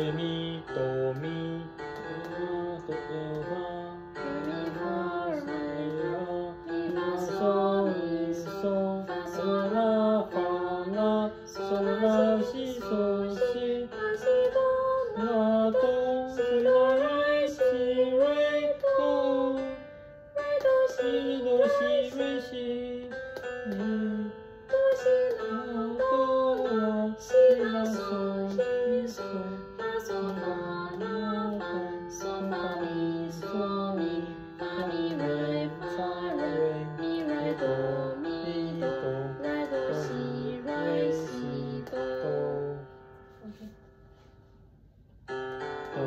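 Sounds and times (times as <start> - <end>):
person singing: 0.0 - 19.8, 20.4 - 43.8.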